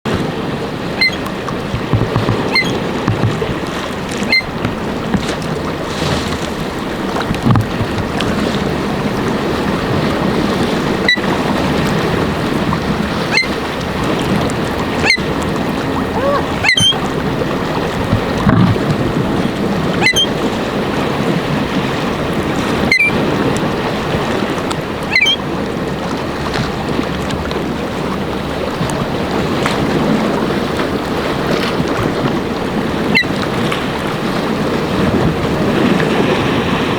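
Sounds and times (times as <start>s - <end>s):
choppy lake waves: 0.0s - 36.9s
wind buffeting microphone: 0.1s - 36.9s.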